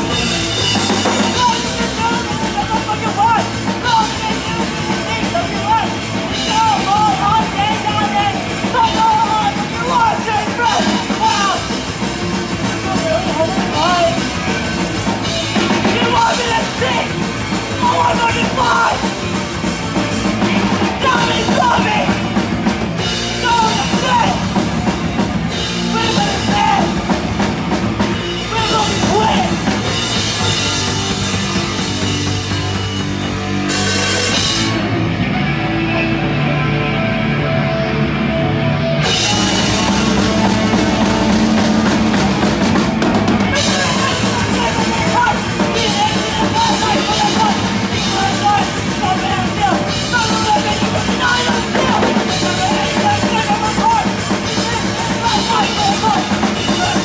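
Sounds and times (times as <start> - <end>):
punk rock band playing: 0.0 - 57.0.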